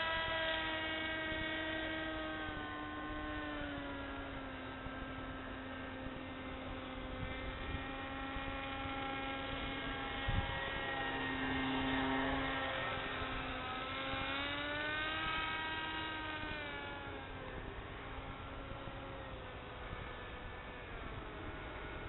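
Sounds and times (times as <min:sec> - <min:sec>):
model plane propeller droning: 0:00.0 - 0:22.0.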